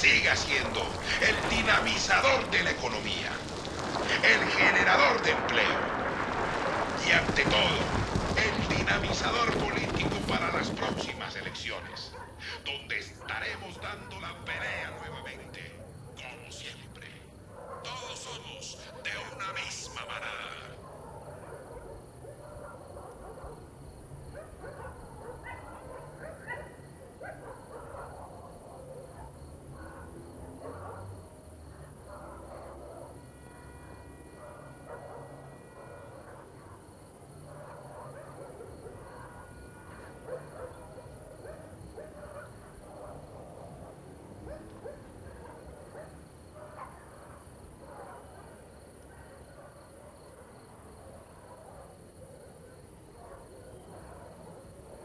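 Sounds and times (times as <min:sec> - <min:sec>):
distant dog barking: 0:00.0 - 0:03.5, 0:09.8 - 0:55.0
crickets chirping: 0:00.0 - 0:55.0.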